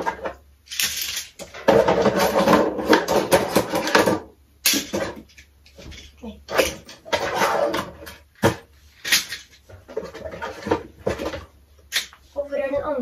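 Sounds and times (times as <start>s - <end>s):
plastic toys clattering and rattling: 0.0s - 13.0s.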